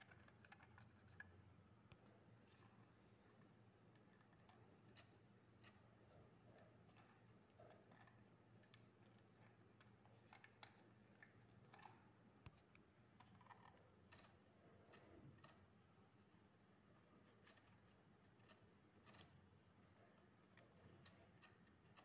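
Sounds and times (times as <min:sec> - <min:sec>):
faint clicks and taps: 0:00.0 - 0:15.7, 0:16.3 - 0:22.0.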